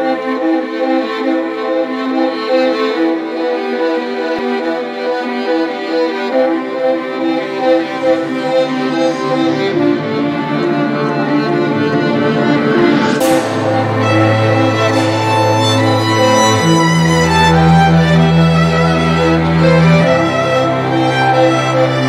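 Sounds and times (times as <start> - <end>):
lower strings: 0.0 - 22.0
violin melody: 0.0 - 22.0.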